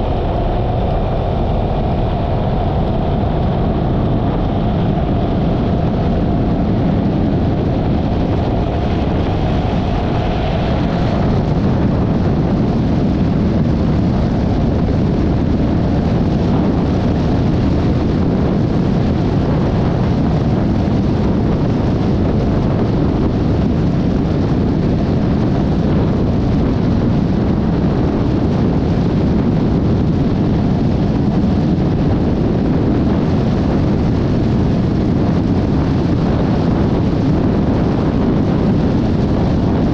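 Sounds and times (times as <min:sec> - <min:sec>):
wind roar on microphone: 0:00.0 - 0:39.9.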